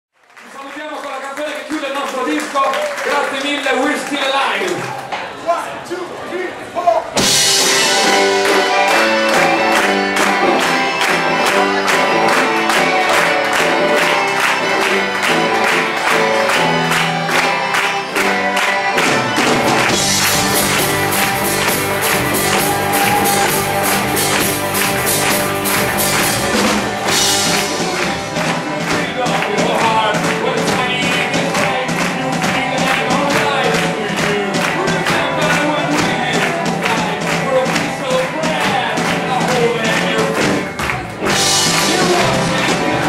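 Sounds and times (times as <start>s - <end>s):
rock band playing live: 7.0s - 43.0s.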